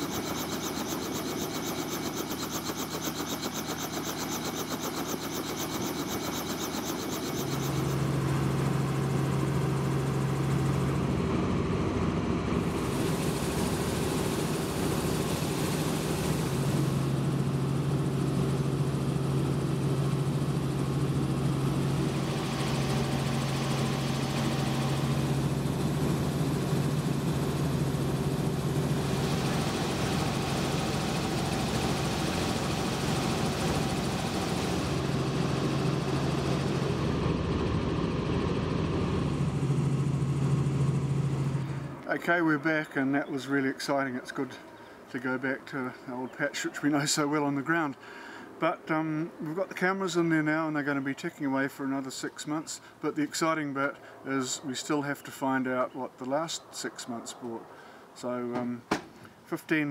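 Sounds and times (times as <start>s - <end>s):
steady low hum: 0.0s - 50.8s
helicopter engine and rotor drone: 0.0s - 58.7s.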